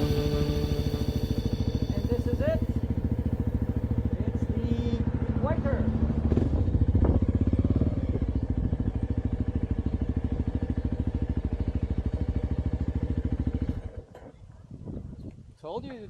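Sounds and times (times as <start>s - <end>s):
motorcycle engine idling: 0.0s - 14.1s.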